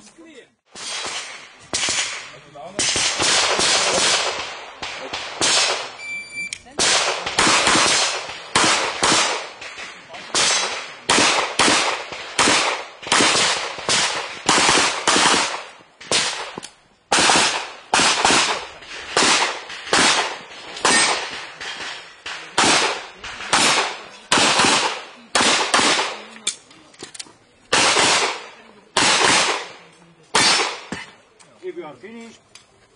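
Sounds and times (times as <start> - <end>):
pistol shots: 0.7 - 6.0, 6.6 - 26.6, 27.7 - 31.1.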